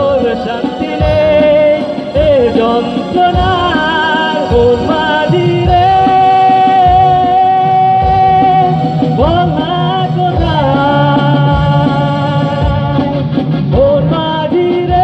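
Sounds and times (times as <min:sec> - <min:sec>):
keyboard: 0:00.0 - 0:15.0
low beat: 0:00.0 - 0:15.0
man singing: 0:00.0 - 0:15.0.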